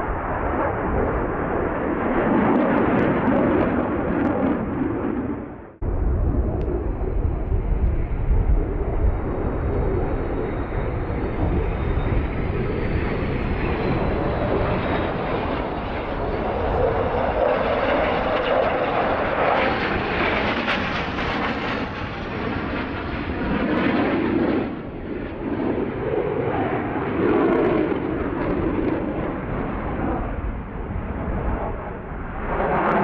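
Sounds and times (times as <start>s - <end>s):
jets roaring past overhead: 0.0s - 33.0s.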